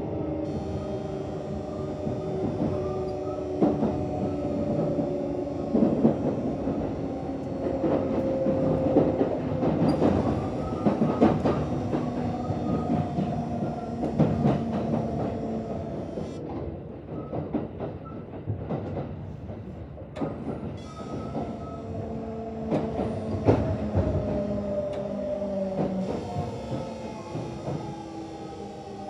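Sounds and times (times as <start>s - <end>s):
electric train inverter whine: 0.0s - 16.4s, 20.8s - 29.0s
train running noise: 0.0s - 29.0s.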